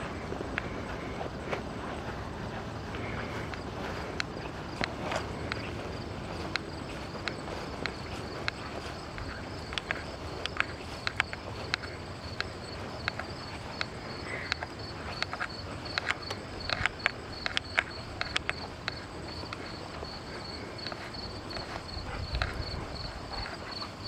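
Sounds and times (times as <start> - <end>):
crickets chirping: 0.0 - 24.0
footsteps on grass: 0.0 - 24.0.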